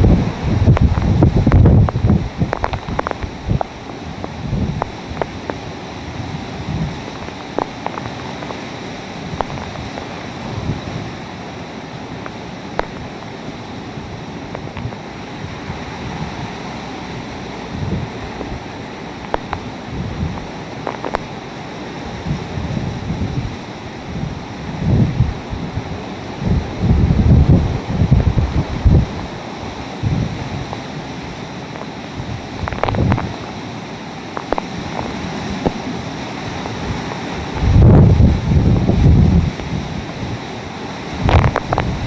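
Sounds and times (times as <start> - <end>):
strong wind buffeting microphone: 0.0 - 42.0.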